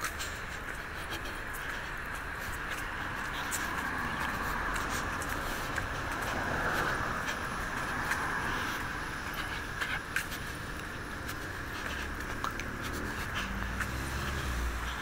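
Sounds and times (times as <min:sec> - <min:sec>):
traffic noise: 0:00.0 - 0:15.0
vehicle engine hum: 0:00.0 - 0:15.0.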